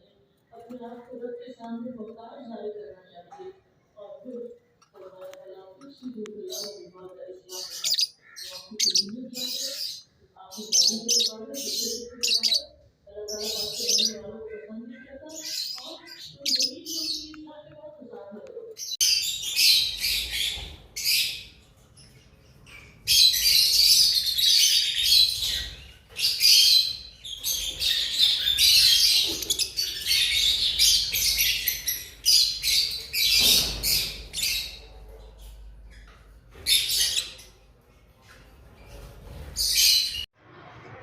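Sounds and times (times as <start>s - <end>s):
lovebirds chattering: 0.0s - 37.6s.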